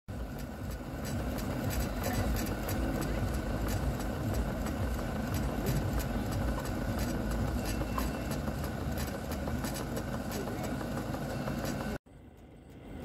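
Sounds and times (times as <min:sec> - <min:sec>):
continuous low rumble: 0:00.1 - 0:13.0
rhythmic steam engine ticking: 0:00.1 - 0:13.0.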